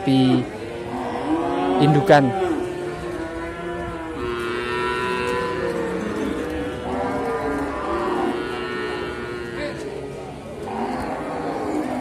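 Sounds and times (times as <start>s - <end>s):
calves mooing: 0.1s - 9.8s, 10.6s - 12.0s.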